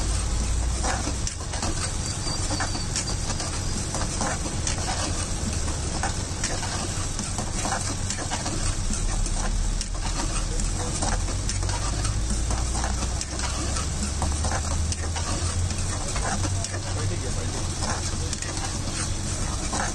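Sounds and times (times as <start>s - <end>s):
ladle scraping metal pan: 0.1s - 19.9s.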